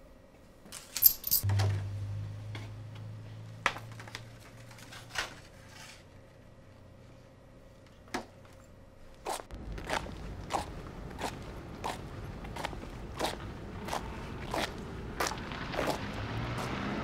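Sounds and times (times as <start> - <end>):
low steady hum: 0.0 - 16.3.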